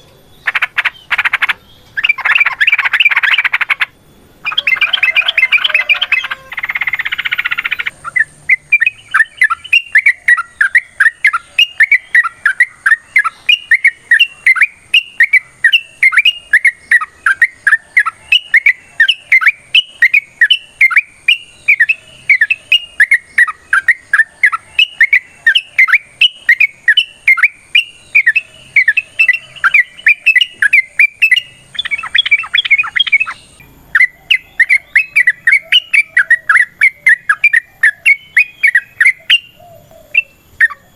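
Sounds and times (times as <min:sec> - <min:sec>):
bird chatter: 0:00.0 - 0:40.9
bird chirping song: 0:00.0 - 0:40.9.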